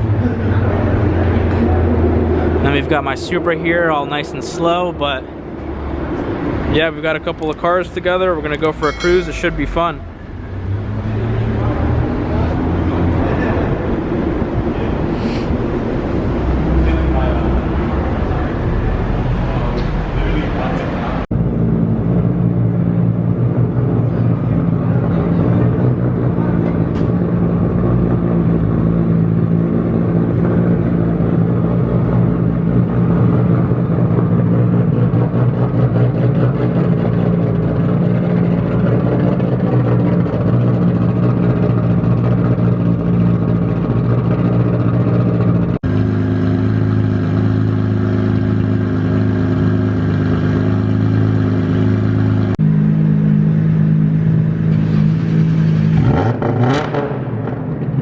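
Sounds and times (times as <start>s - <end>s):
car engine cruising: 0.0s - 58.0s.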